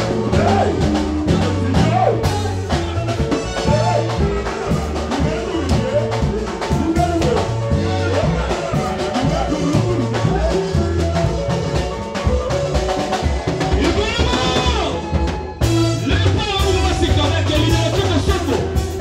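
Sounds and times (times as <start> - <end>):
live band playing dance music: 0.0 - 19.0.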